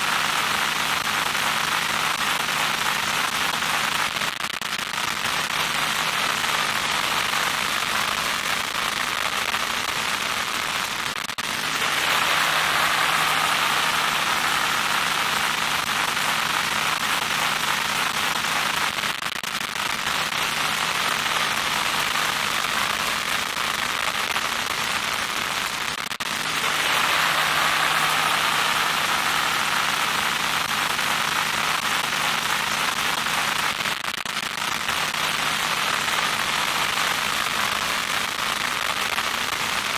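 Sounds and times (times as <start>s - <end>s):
loud electronic static: 0.0s - 39.9s.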